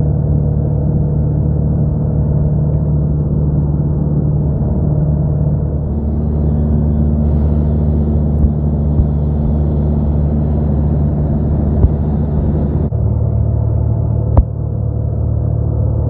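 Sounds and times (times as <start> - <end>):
aircraft engine droning in cabin: 0.0 - 16.0.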